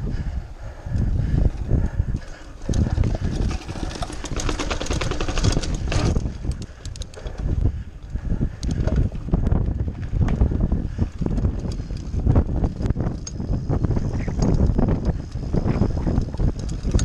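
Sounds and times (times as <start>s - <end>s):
mountain bike rattling: 0.0s - 17.0s
wind buffeting microphone: 0.0s - 17.0s.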